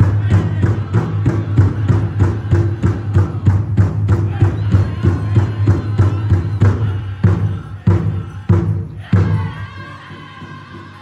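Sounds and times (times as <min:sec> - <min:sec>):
group drum beat: 0:00.0 - 0:11.0
people singing: 0:00.0 - 0:11.0.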